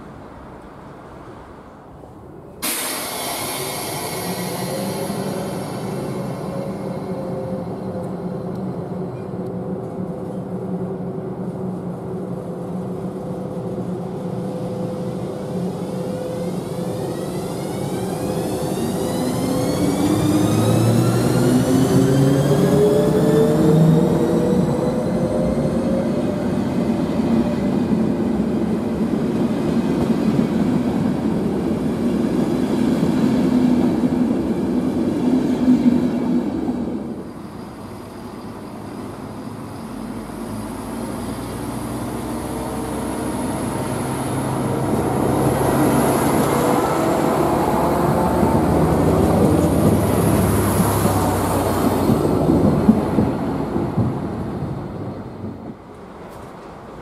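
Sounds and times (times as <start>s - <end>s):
diesel railcar engine passing: 0.0s - 57.0s
train coaches rolling on rails: 0.0s - 57.0s.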